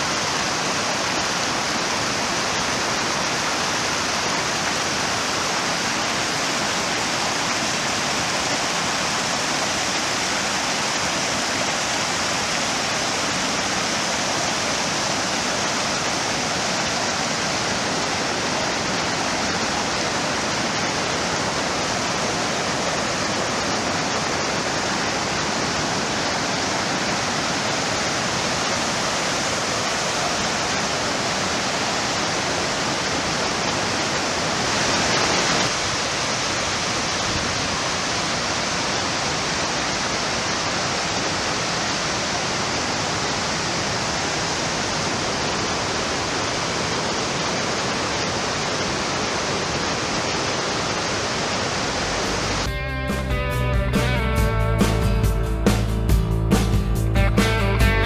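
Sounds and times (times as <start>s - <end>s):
waterfall roaring: 0.0s - 52.7s.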